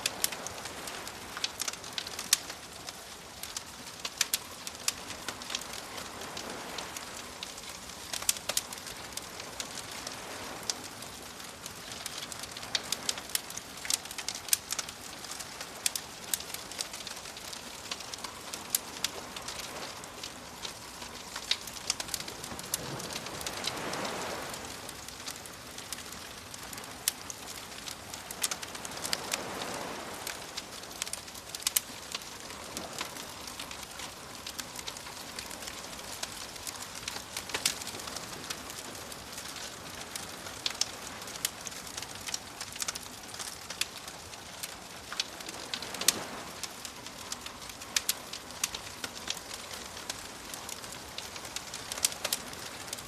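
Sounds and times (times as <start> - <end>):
campfire crackling and popping: 0.0 - 53.0
soft waves washing: 0.0 - 53.0.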